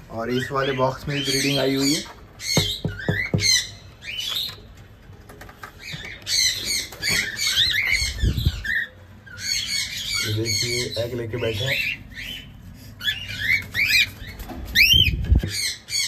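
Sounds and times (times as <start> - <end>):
parrots squawking and chattering: 0.2 - 16.0.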